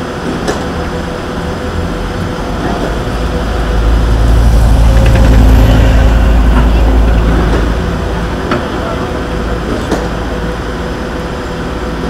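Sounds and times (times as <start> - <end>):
bus engine rumble: 0.0 - 12.0
street traffic: 0.0 - 12.0.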